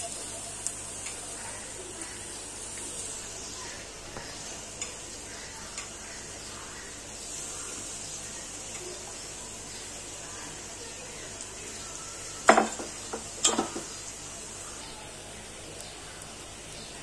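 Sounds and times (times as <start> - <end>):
fritters sizzling in hot oil: 0.0 - 17.0.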